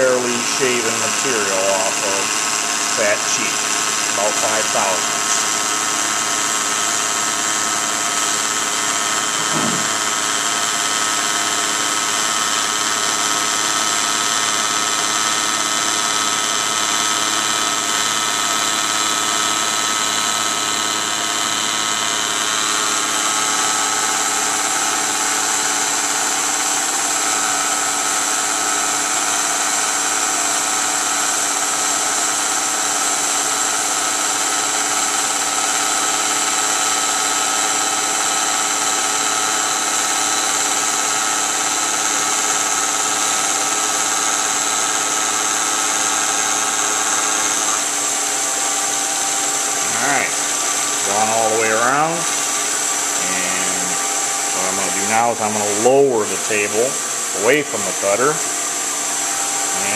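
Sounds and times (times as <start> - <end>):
milling machine whine: 0.0 - 59.9.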